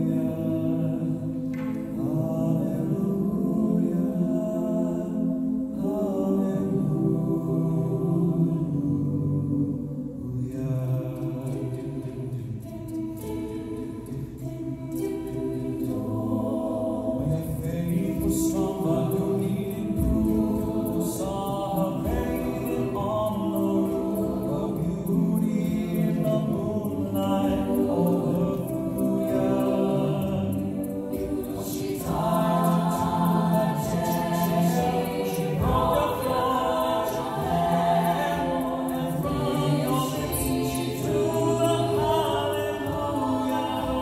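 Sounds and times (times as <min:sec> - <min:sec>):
a cappella group singing chords: 0:00.0 - 0:44.0.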